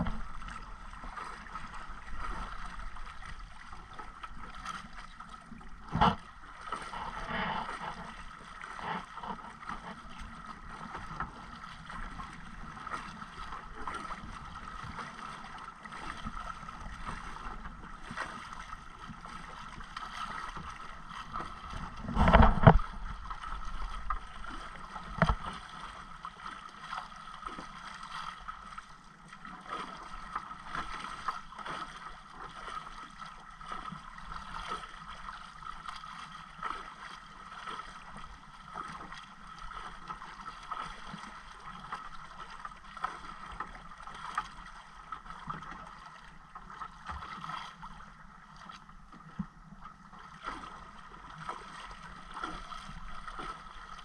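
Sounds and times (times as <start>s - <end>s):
water lapping against boat: 0.0s - 54.0s.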